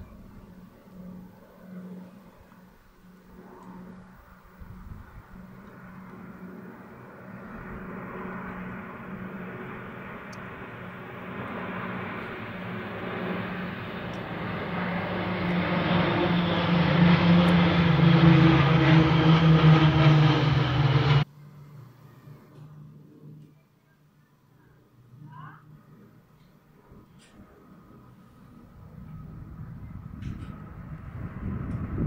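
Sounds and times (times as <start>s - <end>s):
aircraft propeller drone: 0.0s - 32.0s.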